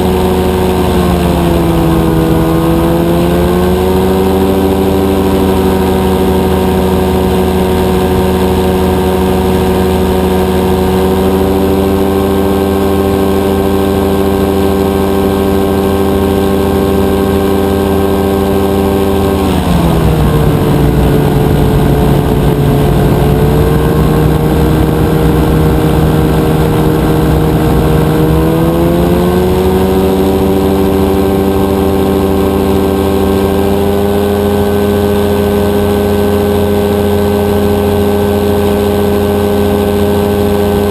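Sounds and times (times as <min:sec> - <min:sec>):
two-stroke aircraft engine running: 0:00.0 - 0:40.9.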